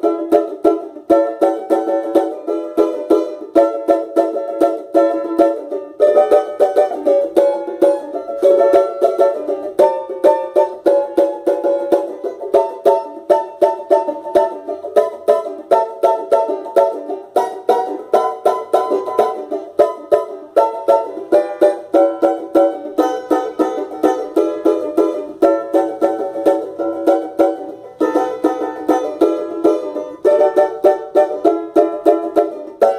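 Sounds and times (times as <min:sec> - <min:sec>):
banjo picking: 0:00.0 - 0:32.9.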